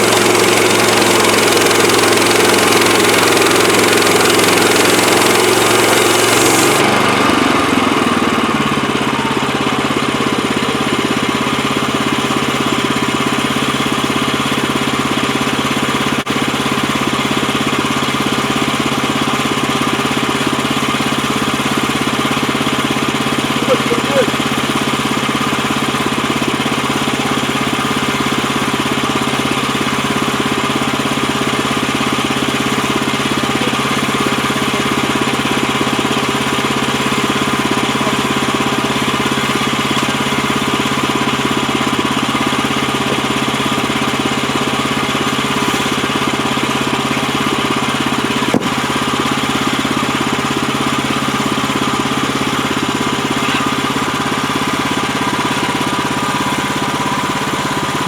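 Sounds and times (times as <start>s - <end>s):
sawmill gas engine running: 0.0s - 58.0s.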